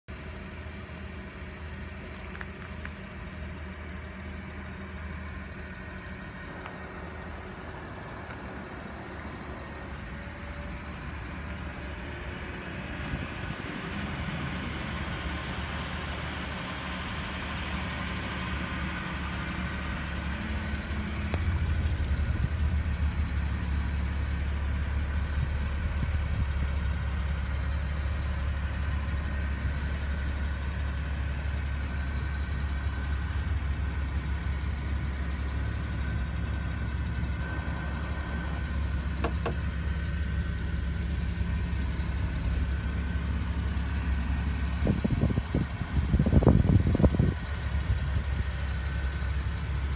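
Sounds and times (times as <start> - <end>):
small truck engine idling: 0.0 - 49.9.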